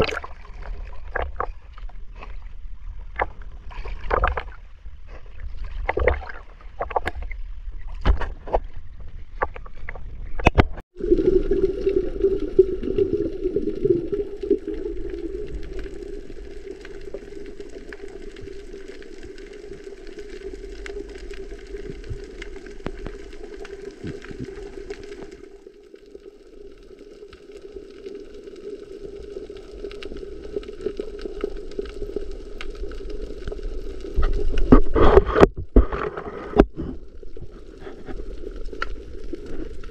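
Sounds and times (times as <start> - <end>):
faint underwater crackling: 0.0 - 39.9
sea water splashing: 0.0 - 39.9.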